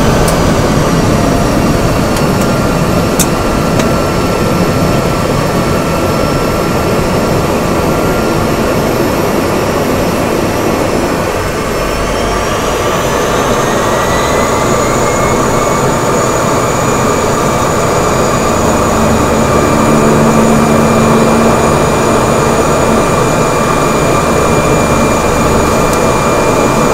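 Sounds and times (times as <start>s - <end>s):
turboprop engine whining: 0.0s - 26.9s.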